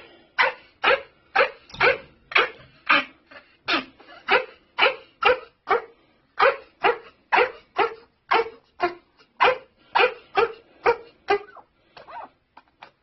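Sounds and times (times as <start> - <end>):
dog coughing and hacking: 0.0 - 11.6.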